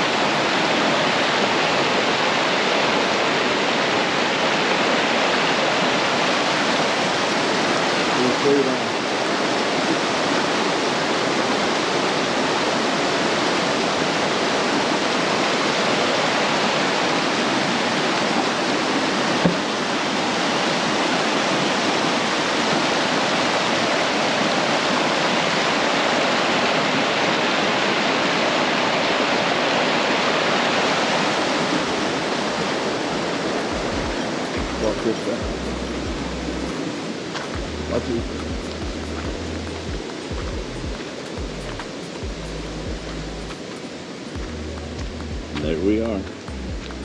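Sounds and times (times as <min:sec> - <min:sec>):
water roaring over spillway: 0:00.0 - 0:47.0.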